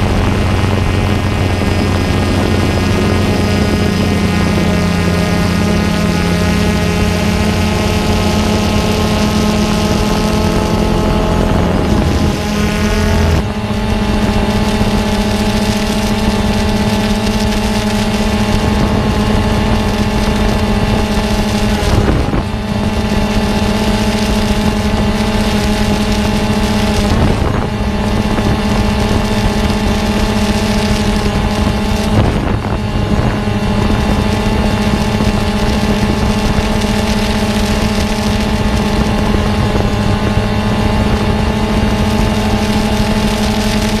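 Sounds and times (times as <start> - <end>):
steady motor hum: 0.0 - 44.0.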